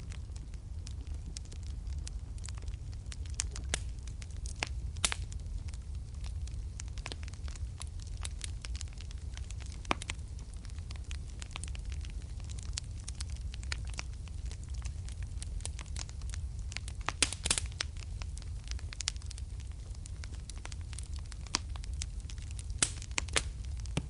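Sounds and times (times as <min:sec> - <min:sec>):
low rumble of flame: 0:00.0 - 0:24.0
wood fire crackling and popping: 0:00.0 - 0:24.0.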